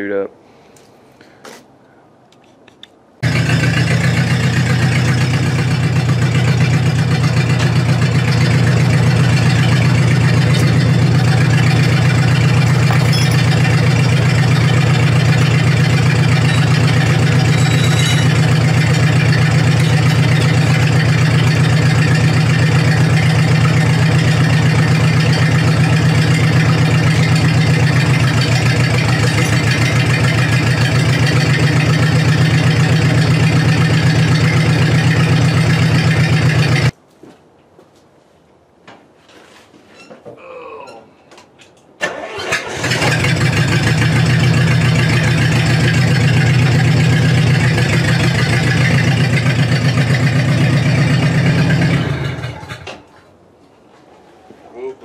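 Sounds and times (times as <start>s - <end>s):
engine idling: 3.2s - 36.9s, 42.1s - 53.0s.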